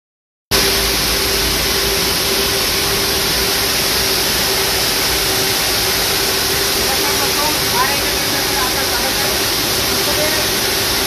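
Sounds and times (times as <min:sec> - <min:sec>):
machine rushing noise: 0:00.5 - 0:11.0
mid-pitched machine hum: 0:00.5 - 0:11.0.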